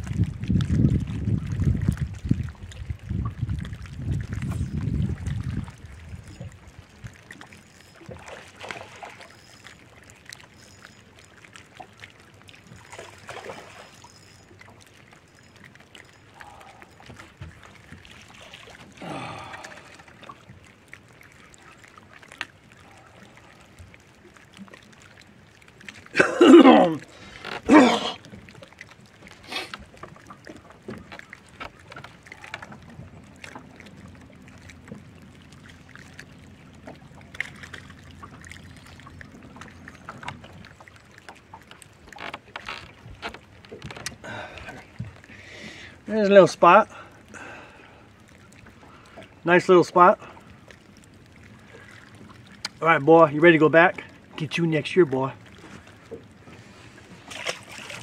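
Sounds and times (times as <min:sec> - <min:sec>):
faint water sounds: 0:00.0 - 0:58.0.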